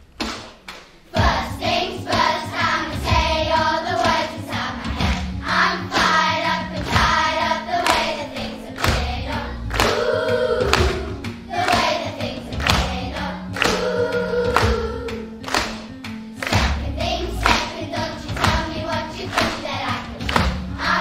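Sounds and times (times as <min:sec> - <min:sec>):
accompanying music with steady beat: 0:00.0 - 0:21.0
children's choir singing: 0:01.1 - 0:15.8, 0:16.4 - 0:21.0.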